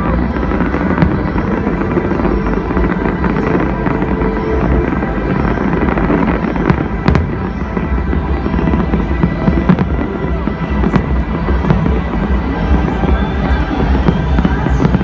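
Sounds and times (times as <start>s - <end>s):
fireworks bangs: 0.0s - 15.0s
loud electronic dance music: 0.0s - 15.0s.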